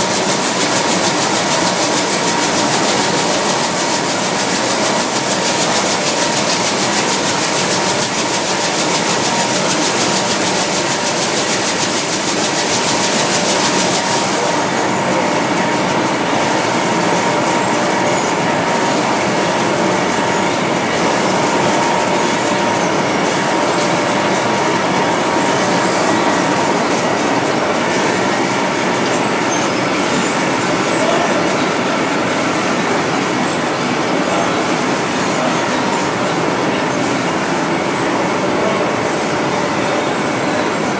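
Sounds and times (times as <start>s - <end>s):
roasting machine rattling: 0.0s - 40.9s.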